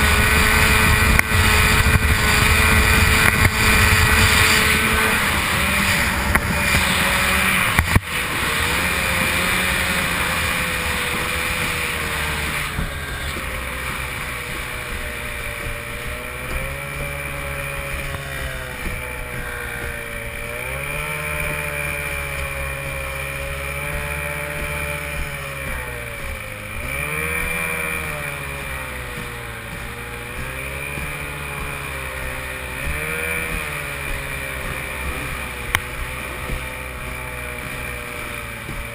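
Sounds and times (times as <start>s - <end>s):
outboard engine racing: 0.0s - 38.9s
wind and spray hiss: 0.0s - 38.9s.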